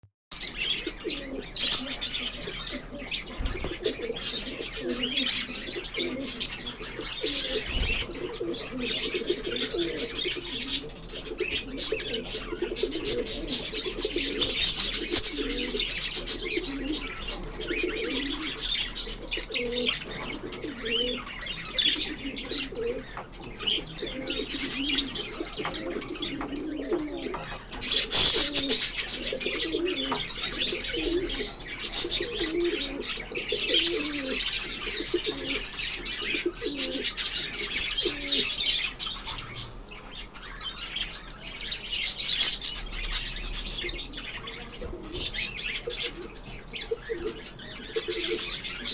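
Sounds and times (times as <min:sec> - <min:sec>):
small birds chirping: 0:00.3 - 0:48.9
pigeons cooing: 0:00.4 - 0:48.9.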